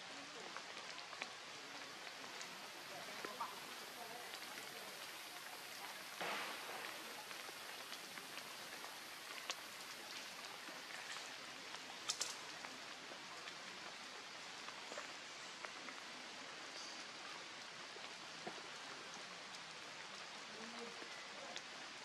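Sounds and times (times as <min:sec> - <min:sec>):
light rain on foliage: 0:00.0 - 0:22.0
water drips: 0:00.0 - 0:22.0.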